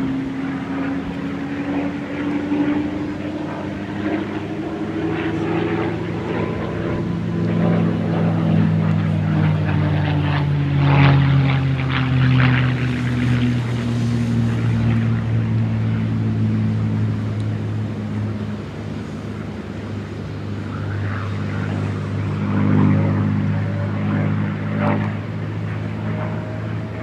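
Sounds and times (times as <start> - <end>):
propeller plane flying by: 0.0 - 27.0.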